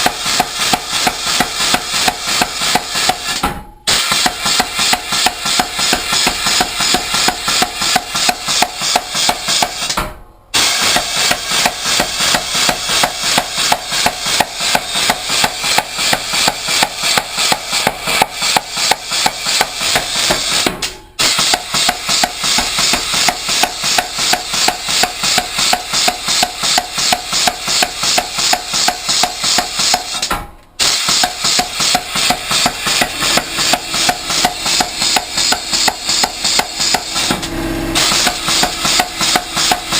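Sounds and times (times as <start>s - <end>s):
pneumatic air hammer striking: 0.0s - 39.9s.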